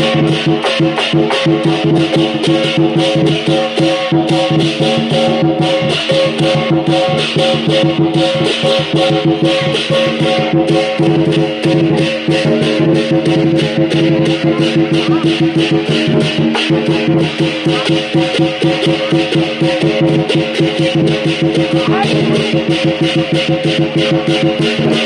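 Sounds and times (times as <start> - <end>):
cymbals clashing: 0.0 - 25.0
drum beating: 0.0 - 25.0.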